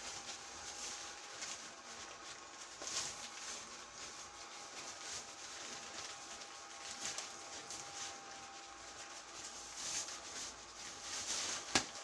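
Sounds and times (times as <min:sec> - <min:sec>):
blower fan whine: 0:00.0 - 0:12.0.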